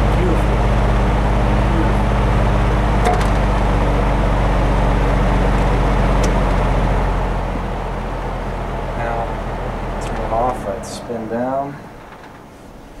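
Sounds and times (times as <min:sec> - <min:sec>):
box fan running: 0:00.0 - 0:13.0
box fan spinning down: 0:00.0 - 0:13.0.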